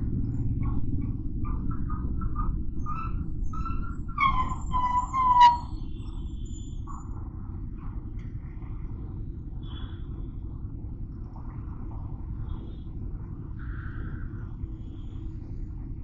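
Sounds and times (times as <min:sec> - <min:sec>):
motorcycle engine and road rumble: 0:00.0 - 0:16.0.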